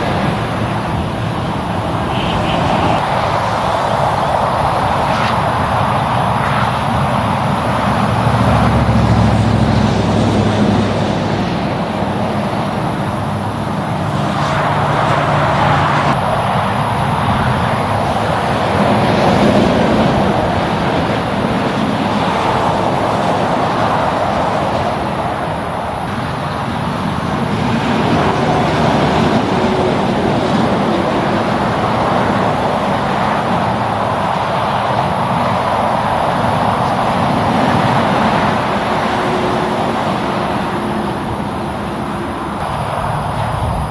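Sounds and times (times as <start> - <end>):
heavy truck diesel engine: 0.0 - 43.9
highway traffic passing: 0.0 - 43.9.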